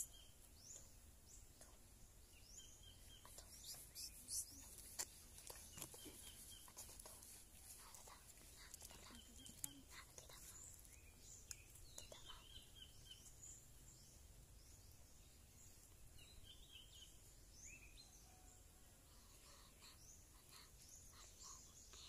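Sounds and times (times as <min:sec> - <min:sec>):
faint high hiss: 0:00.0 - 0:22.0
small birds chirping: 0:00.0 - 0:22.0.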